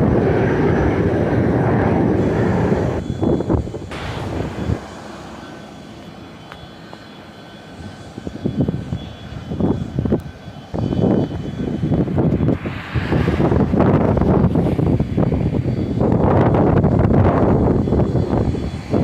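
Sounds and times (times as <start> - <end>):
jet engines on takeoff: 0.0 - 19.0
wind buffeting microphone: 0.0 - 19.0.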